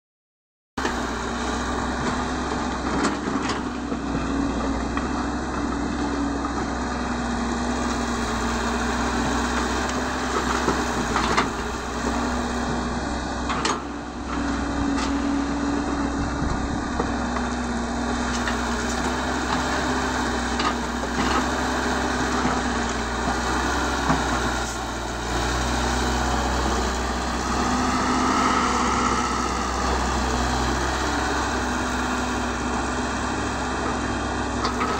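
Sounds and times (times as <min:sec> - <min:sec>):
excavator diesel engine working: 0:00.8 - 0:34.9.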